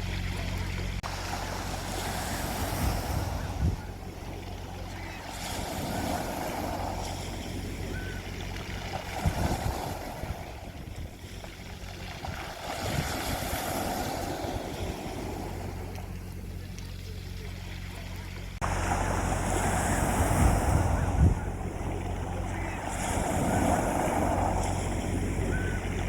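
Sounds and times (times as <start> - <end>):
low rumble: 0.0 - 26.0
sea waves washing onto beach: 0.0 - 26.0.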